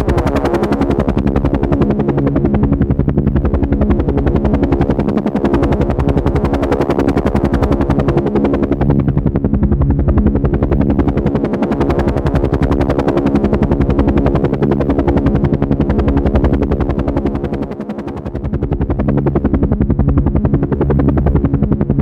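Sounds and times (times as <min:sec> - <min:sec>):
droning engine tone: 0:00.0 - 0:22.0
helicopter rotor chopping: 0:00.0 - 0:22.0.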